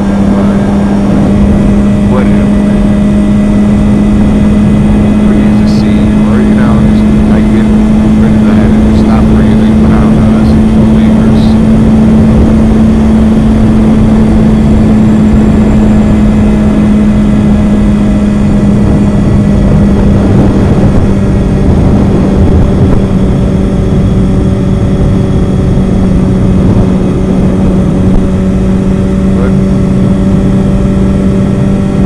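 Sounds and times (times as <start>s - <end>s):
motorcycle engine running: 0.0s - 32.0s
wind rush on microphone: 0.0s - 32.0s.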